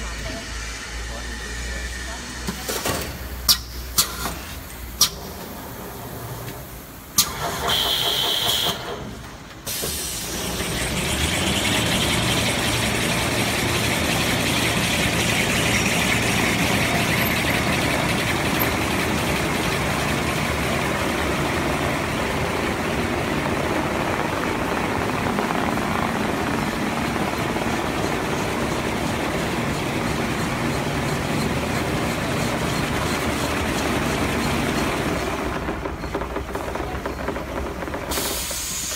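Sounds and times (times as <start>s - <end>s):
machine running with hiss: 0.0s - 38.9s.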